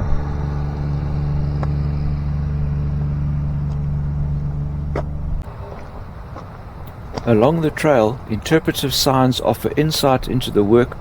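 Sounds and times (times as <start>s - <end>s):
buggy engine idling: 0.0s - 11.0s.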